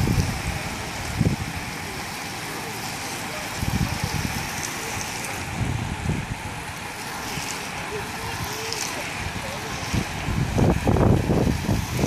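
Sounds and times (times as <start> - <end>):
bicycle tyres hissing on wet road: 0.0 - 12.0.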